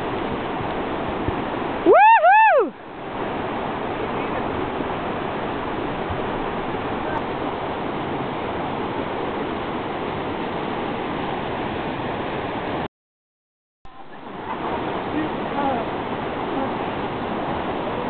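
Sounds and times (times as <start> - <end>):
river rapids rushing: 0.0 - 12.8, 14.0 - 18.0.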